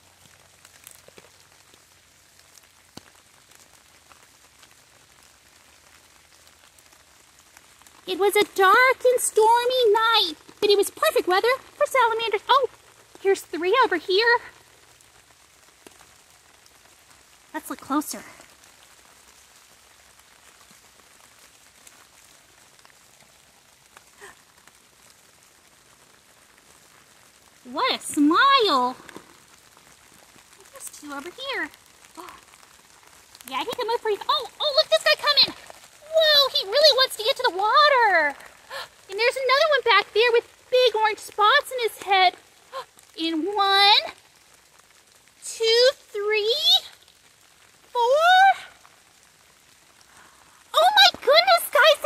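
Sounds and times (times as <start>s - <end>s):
rain on leaf litter: 0.0s - 52.0s.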